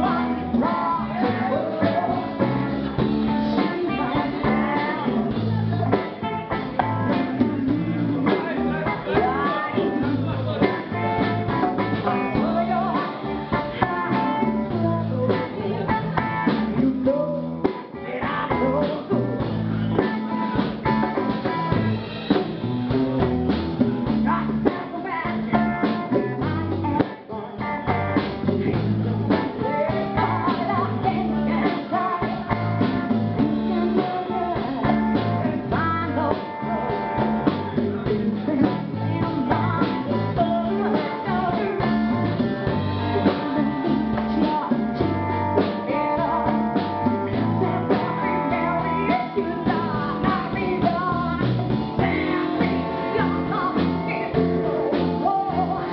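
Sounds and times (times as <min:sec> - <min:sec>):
person singing: 0:00.0 - 0:22.7, 0:23.9 - 0:55.9
live blues-rock band: 0:00.0 - 0:55.9.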